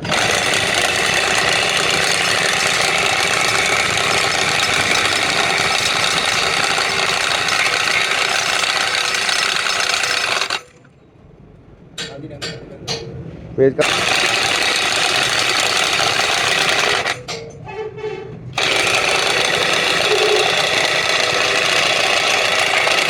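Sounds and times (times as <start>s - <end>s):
power tool running: 0.0s - 10.9s, 13.8s - 17.3s, 18.6s - 23.0s.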